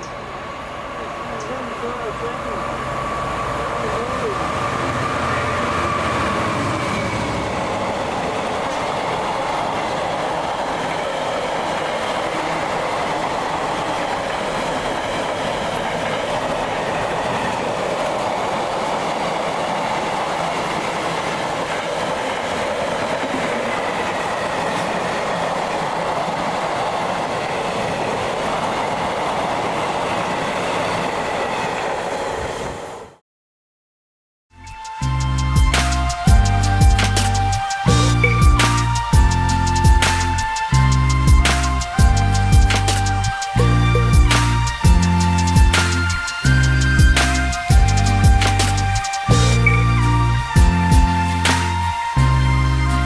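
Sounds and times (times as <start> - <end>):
train wheel on rail noise: 0.0 - 33.2, 34.8 - 53.0.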